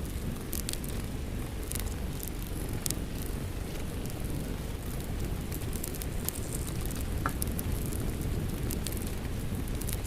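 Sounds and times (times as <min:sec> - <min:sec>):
steady rain: 0:00.0 - 0:10.0
wood fire crackling: 0:00.0 - 0:10.0.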